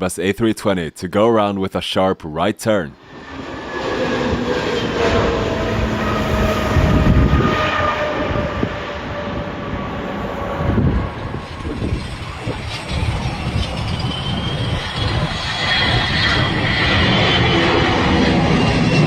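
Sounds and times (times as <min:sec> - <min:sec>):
jet engines whining: 0:03.0 - 0:19.0.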